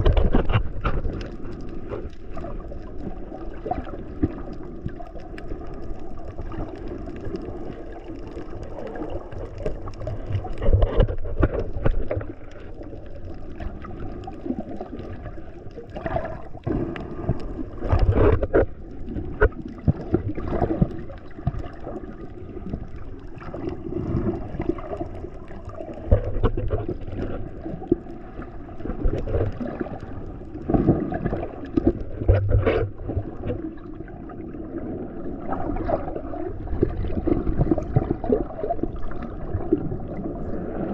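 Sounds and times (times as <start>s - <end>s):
sea water sloshing and gurgling: 0.0s - 40.9s.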